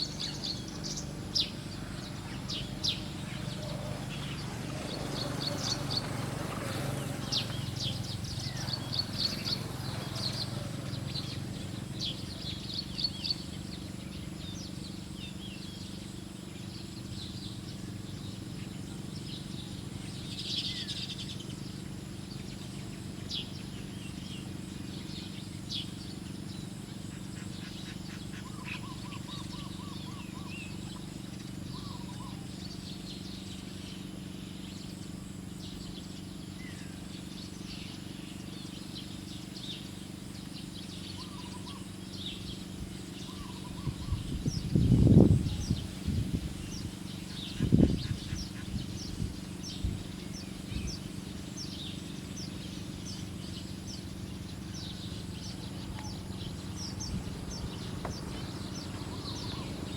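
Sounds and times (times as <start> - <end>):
birds chirping: 0.0 - 59.9
low background hum: 0.0 - 59.9
low rapid bird trill: 0.0 - 59.9.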